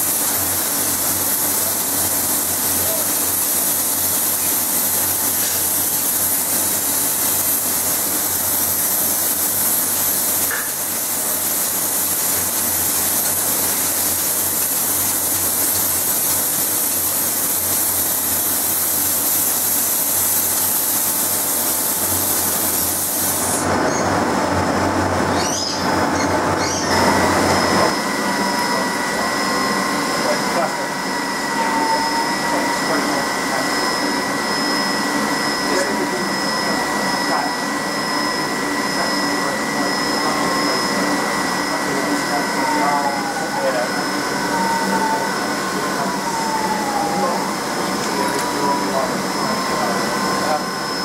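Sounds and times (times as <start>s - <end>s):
air spray gun hissing: 0.0s - 23.8s, 26.9s - 51.0s
workshop noise: 0.0s - 51.0s.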